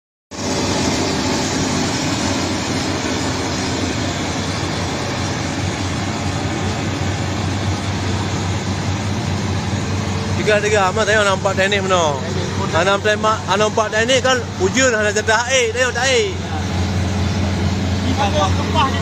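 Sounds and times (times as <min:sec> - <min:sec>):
diesel engine running steadily: 0:00.3 - 0:19.0.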